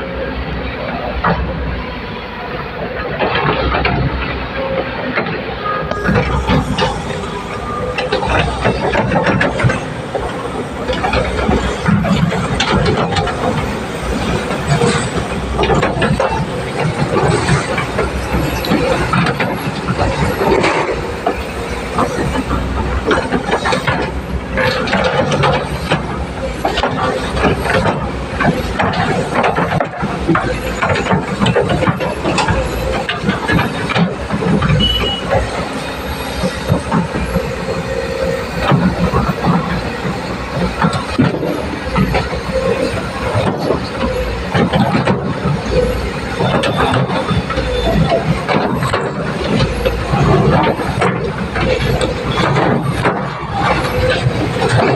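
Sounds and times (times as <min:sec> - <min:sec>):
excavator engine running: 0:00.0 - 0:54.9
excavator knocks and clatter: 0:00.0 - 0:54.9.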